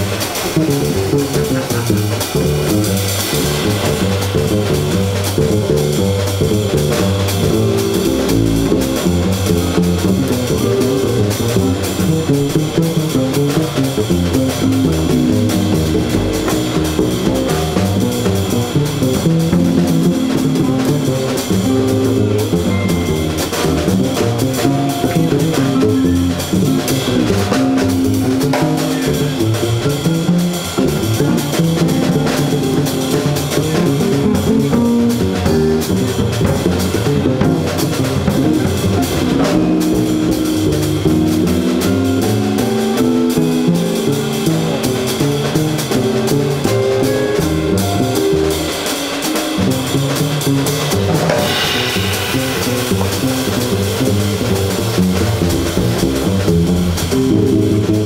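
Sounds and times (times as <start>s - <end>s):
double bass plucked: 0.0s - 58.0s
drum kit: 0.0s - 58.0s.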